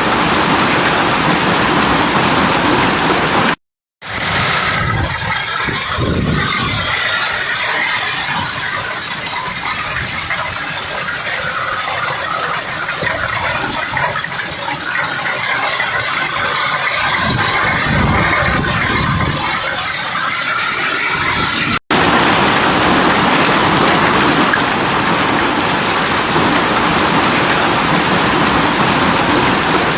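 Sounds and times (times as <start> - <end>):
hailstones clattering: 0.0 - 29.9
heavy rain: 0.0 - 29.9.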